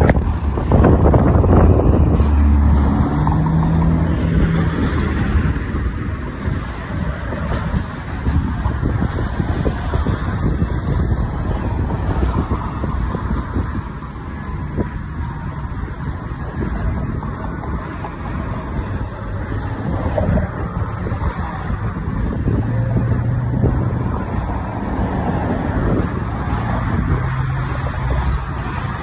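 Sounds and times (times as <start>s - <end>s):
street traffic: 0.0s - 29.0s
wind on microphone: 0.0s - 29.0s.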